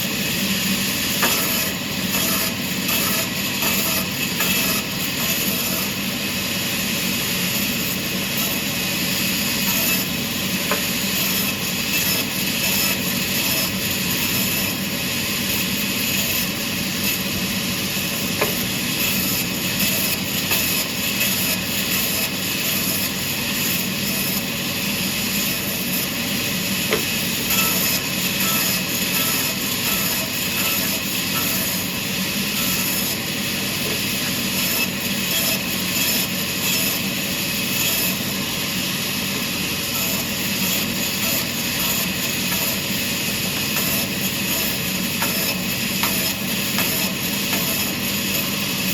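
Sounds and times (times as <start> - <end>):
sawmill saw cutting wood: 0.8 - 14.9, 18.0 - 24.4, 25.3 - 38.4, 39.0 - 48.9.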